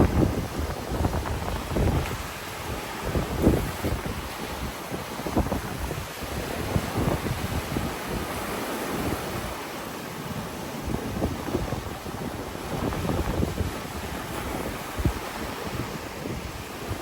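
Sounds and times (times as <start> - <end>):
sea waves washing onto shore: 0.0 - 17.0
wind buffeting microphone: 0.0 - 17.0.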